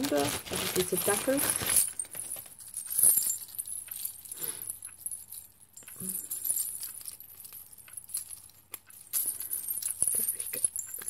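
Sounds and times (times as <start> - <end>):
charms and bells jingling: 0.0 - 11.0.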